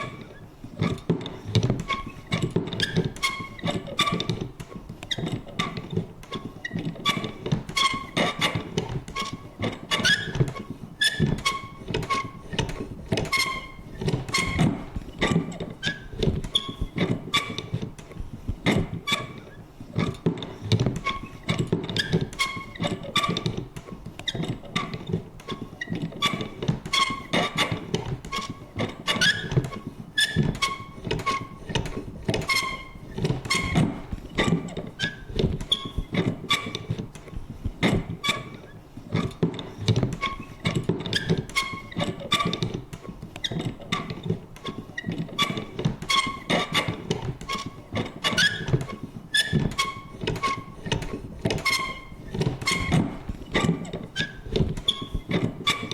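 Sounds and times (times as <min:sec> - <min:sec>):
high squeaky creaks: 0:01.6 - 0:04.5, 0:05.1 - 0:17.8, 0:18.7 - 0:20.3, 0:21.0 - 0:23.6, 0:24.3 - 0:37.0, 0:37.8 - 0:55.9.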